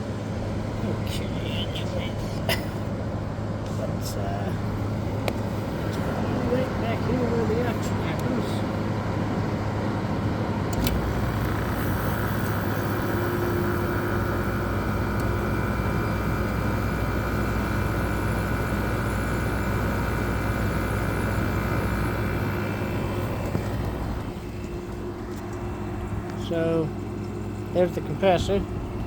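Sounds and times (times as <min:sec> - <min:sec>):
air conditioner compressor humming: 0:00.0 - 0:29.0
steady high whine: 0:00.0 - 0:29.0.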